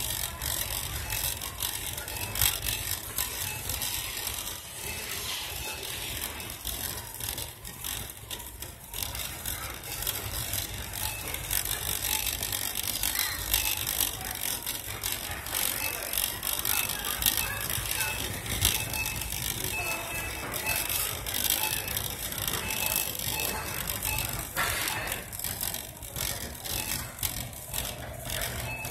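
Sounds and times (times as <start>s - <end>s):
shopping cart rattling and rolling: 0.0s - 28.9s.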